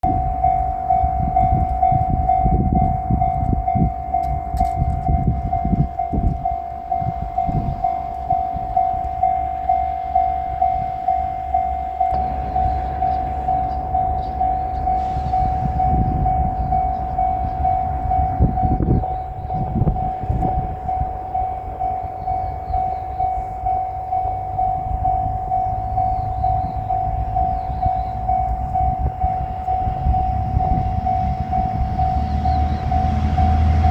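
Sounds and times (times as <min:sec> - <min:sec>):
diesel railcar rumbling past: 0:00.0 - 0:33.9
railroad crossing bell ringing: 0:00.0 - 0:33.9.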